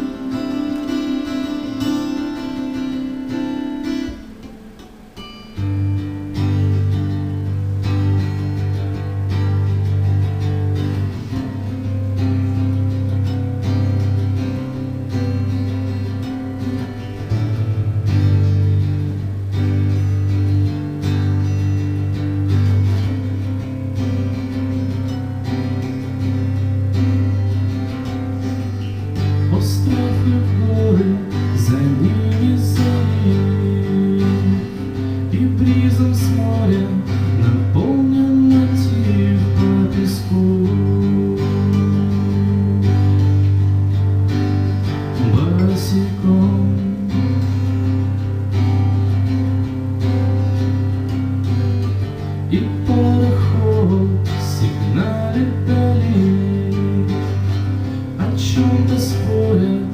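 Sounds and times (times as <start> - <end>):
acoustic guitar strumming and picking: 0.0 - 59.9.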